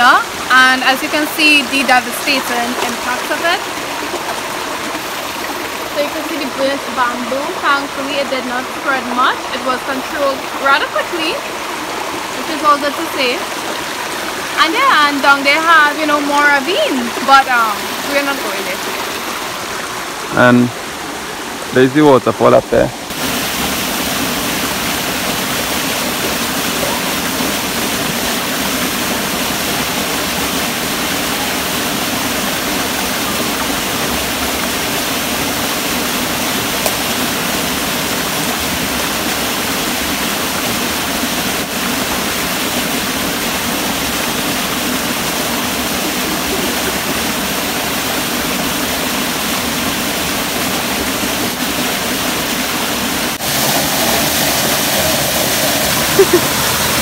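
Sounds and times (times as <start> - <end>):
stream running over rocks: 0.0 - 57.0
waterfall pouring into pool: 0.0 - 57.0.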